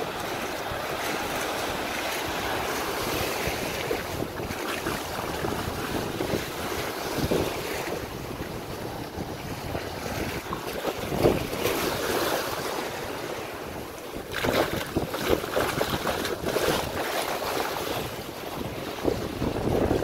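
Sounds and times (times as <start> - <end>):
surf washing over sand: 0.0 - 20.0
wind buffeting microphone: 0.0 - 20.0.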